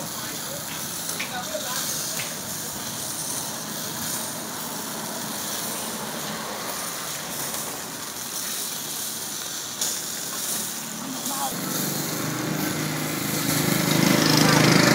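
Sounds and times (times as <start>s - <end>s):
sausages sizzling on grill: 0.0s - 14.9s
traffic hum: 0.0s - 14.9s.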